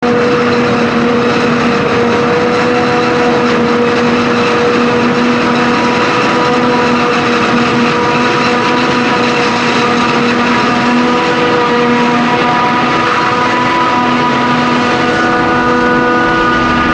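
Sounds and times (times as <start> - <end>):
forage harvester running: 0.0 - 16.9
mechanical whine: 0.0 - 16.9.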